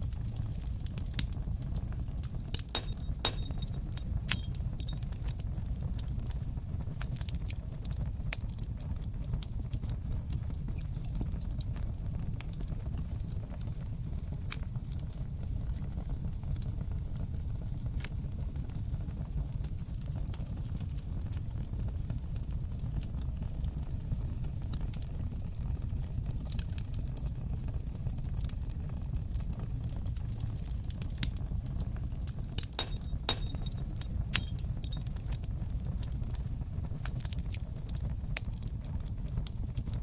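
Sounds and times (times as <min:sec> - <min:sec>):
sharp fire pops: 0:00.0 - 0:22.2, 0:26.2 - 0:40.0
wood fire crackling: 0:00.0 - 0:40.0.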